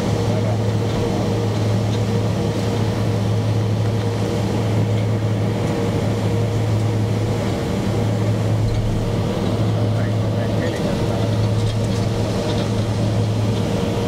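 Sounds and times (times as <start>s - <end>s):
jet engine running at low power: 0.0s - 14.0s.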